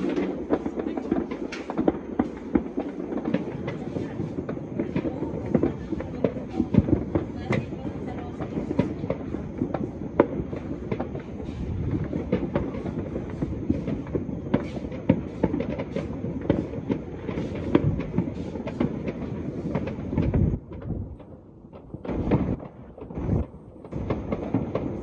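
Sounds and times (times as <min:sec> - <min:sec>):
distant fireworks crackling: 0:00.0 - 0:25.0
sharp firework bangs: 0:00.0 - 0:25.0.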